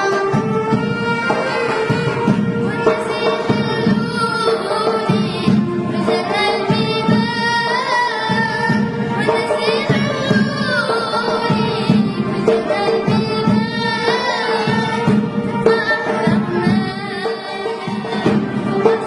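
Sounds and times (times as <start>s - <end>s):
instrumental accompaniment: 0.0s - 19.0s
steady drum beat: 0.0s - 19.0s
choir singing: 1.0s - 19.0s.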